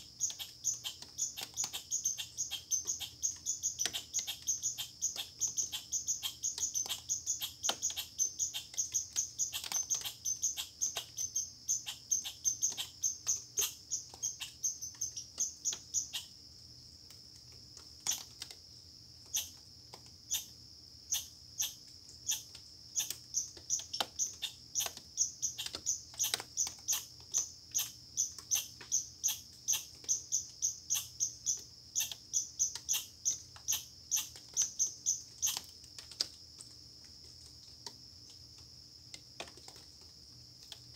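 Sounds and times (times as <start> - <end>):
squirrel chirping: 0.0 - 16.4, 18.0 - 18.5, 19.2 - 19.7, 20.3 - 36.1.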